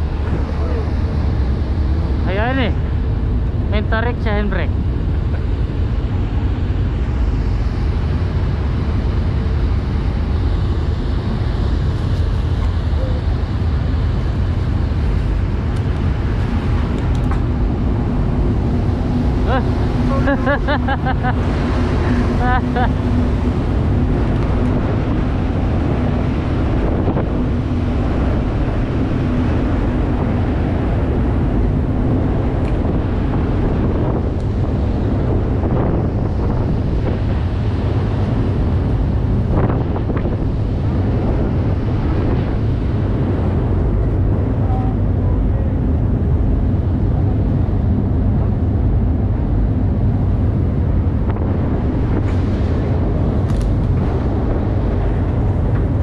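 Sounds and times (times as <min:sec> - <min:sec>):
ship engines rumbling: 0:00.0 - 0:56.0
wind buffeting microphone: 0:00.0 - 0:56.0.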